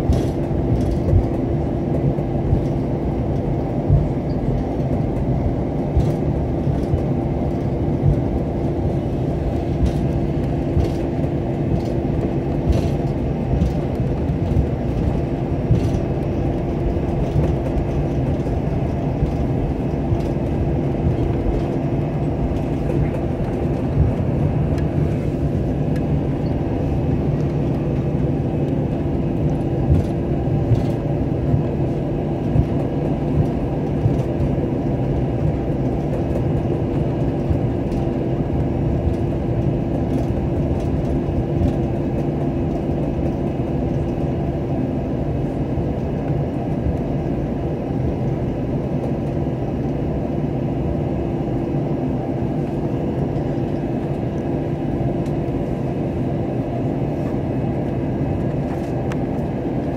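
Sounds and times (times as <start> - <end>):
aircraft engine hum: 0.0 - 59.9.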